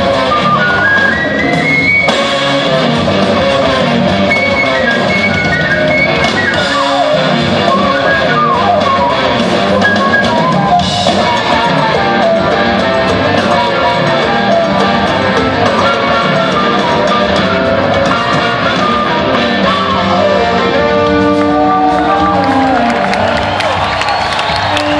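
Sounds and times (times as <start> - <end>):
lead electric guitar: 0.0 - 23.5
bass guitar: 0.0 - 24.9
drum kit: 0.0 - 24.9
rhythm guitar: 0.0 - 24.9.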